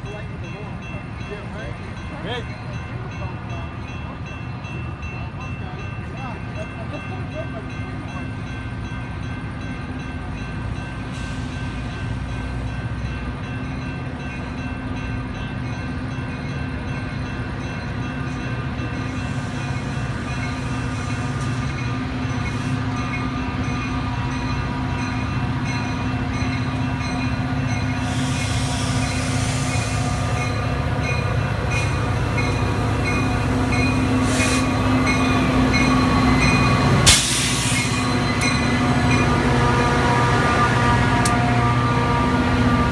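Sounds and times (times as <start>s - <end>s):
train running drone: 0.0s - 42.9s.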